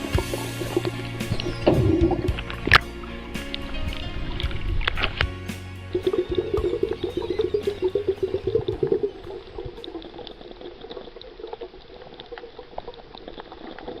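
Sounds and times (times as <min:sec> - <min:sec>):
water bubbling: 0:00.0 - 0:05.2, 0:05.9 - 0:14.0.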